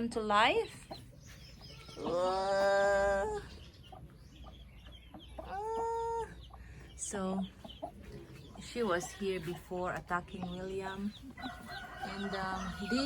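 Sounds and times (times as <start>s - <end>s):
chicken calling: 0.9s - 13.0s.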